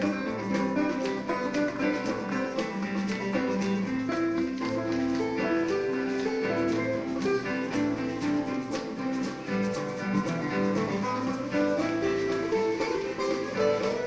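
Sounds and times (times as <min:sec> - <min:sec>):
bass guitar: 0:00.0 - 0:14.0
electric guitar lines: 0:00.0 - 0:14.0.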